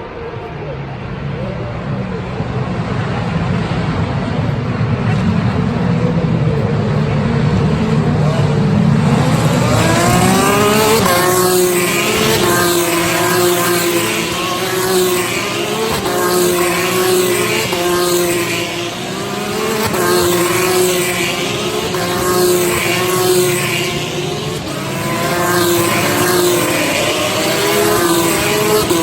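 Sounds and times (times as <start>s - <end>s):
racing car engines accelerating: 0.0s - 29.0s.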